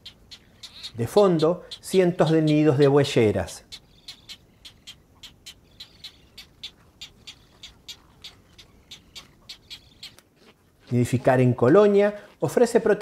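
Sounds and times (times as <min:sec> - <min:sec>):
bird chicks peeping: 0:00.0 - 0:11.3.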